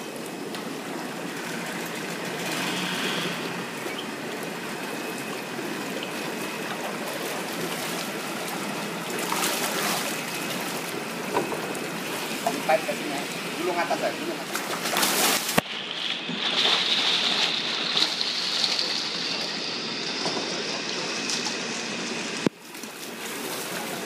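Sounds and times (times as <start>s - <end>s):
running water rushing: 0.0s - 24.0s
water splashing and sloshing: 0.0s - 24.0s.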